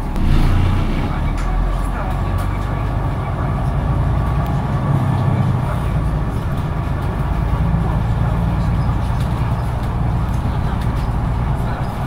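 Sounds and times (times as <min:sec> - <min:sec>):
bus engine drone: 0:00.0 - 0:12.0
road noise: 0:00.0 - 0:12.0.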